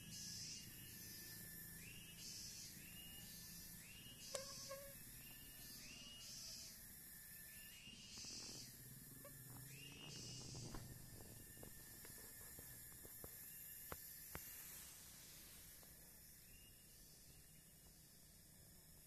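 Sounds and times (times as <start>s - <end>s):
soft hissing pulses: 0.0s - 19.0s.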